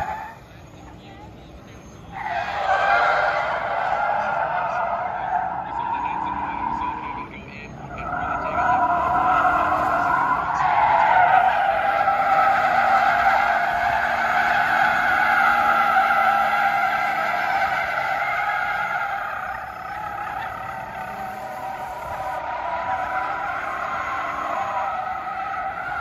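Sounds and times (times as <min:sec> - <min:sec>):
car tyres squealing: 0:00.0 - 0:26.0.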